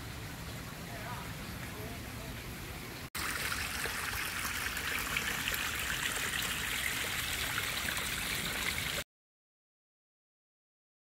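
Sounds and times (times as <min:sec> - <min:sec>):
water trickling over stones: 0:00.0 - 0:09.0.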